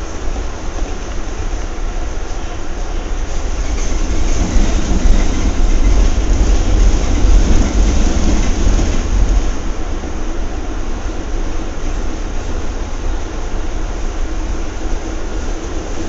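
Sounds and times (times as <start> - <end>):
train car rumbling on rails: 0.0 - 16.0.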